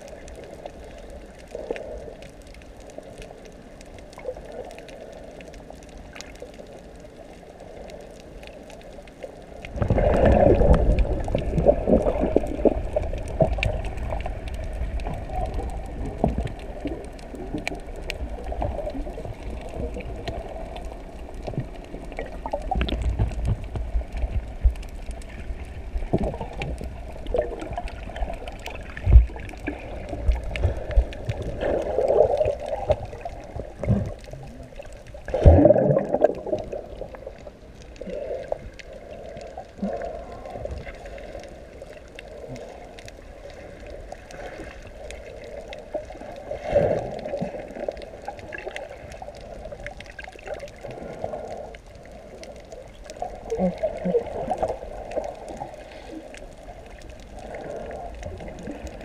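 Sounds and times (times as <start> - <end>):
muffled underwater sloshing: 0.0 - 59.0.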